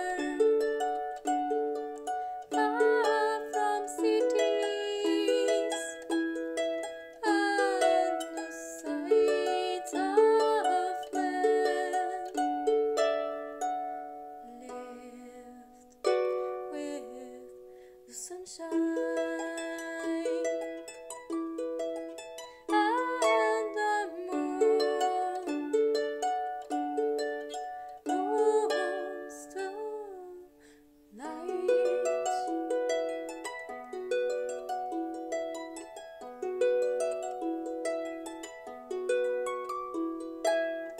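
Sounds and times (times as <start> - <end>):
harp plucked melody: 0.0 - 40.9.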